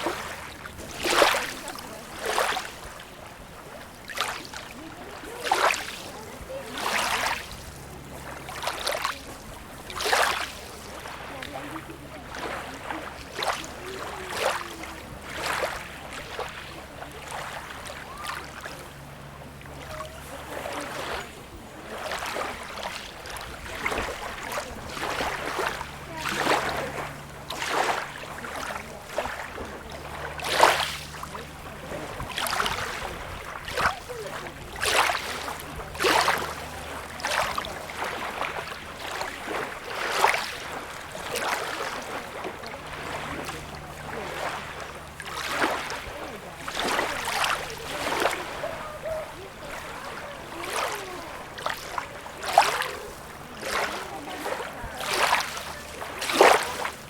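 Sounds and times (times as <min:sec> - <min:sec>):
small waves splashing on beach: 0:00.0 - 0:57.0.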